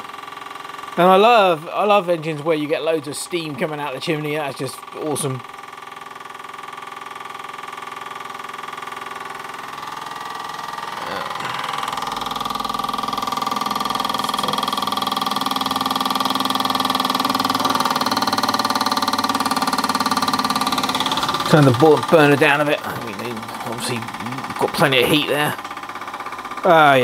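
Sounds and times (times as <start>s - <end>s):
model steam engine running: 0.0s - 27.0s.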